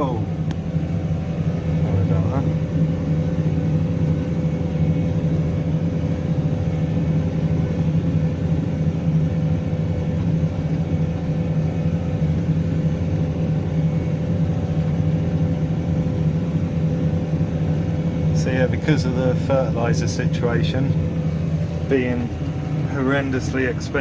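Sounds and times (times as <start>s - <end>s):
tractor engine droning under load: 0.0s - 24.0s.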